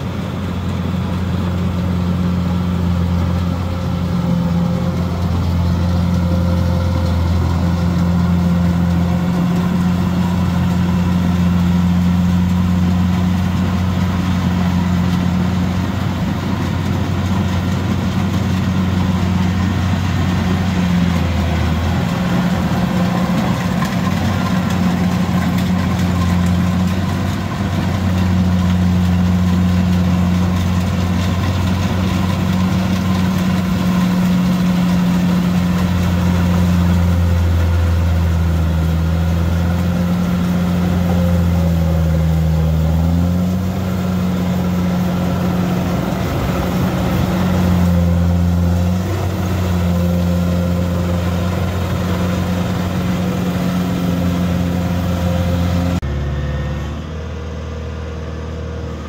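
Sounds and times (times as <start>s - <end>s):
harvester engine droning: 0.0s - 59.0s.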